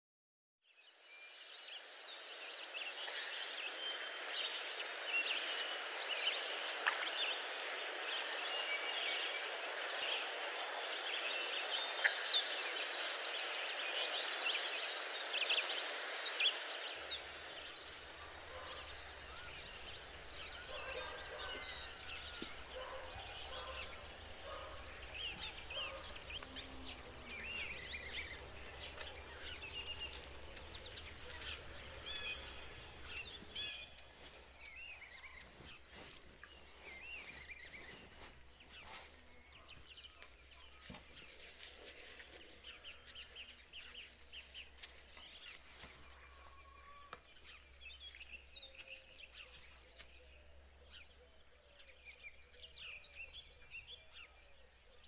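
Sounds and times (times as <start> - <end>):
birds chirping: 1.1 - 55.0.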